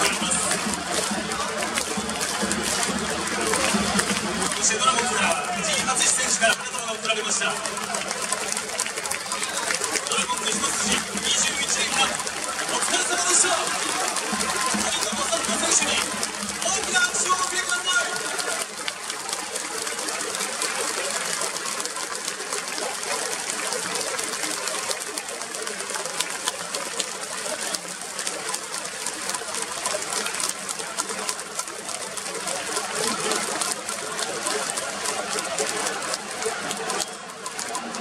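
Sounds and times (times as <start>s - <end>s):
large crowd applauding: 0.0s - 38.0s.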